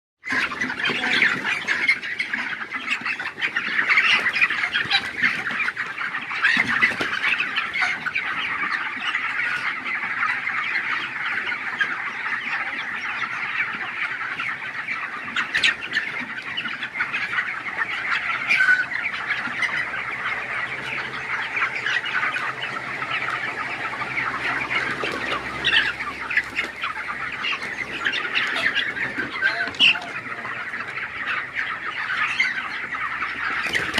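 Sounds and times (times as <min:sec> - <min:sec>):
chicken squawks: 0:00.2 - 0:33.9
flock of chickens calling: 0:00.2 - 0:33.9.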